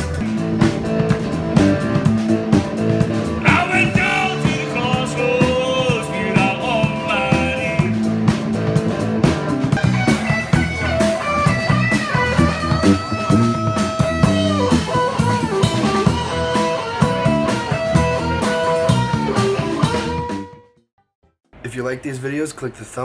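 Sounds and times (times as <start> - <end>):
blues music with guitar and drums: 0.0 - 20.6.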